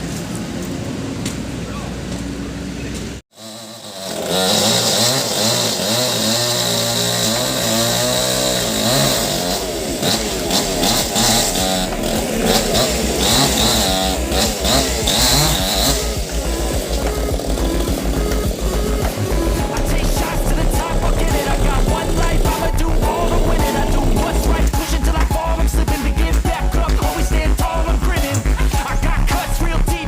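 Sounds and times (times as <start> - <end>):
chainsaw cutting wood: 3.3 - 29.4.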